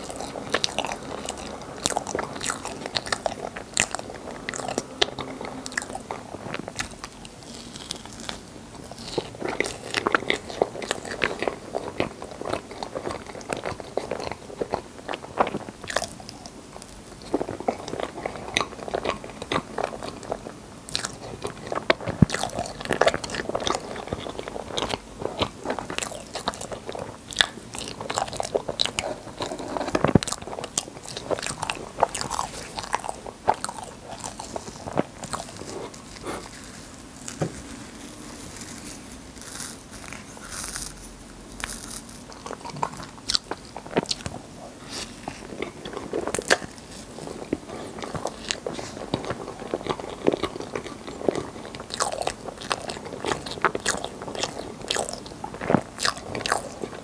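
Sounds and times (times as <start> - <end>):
close-miked chewing: 0.0 - 57.0.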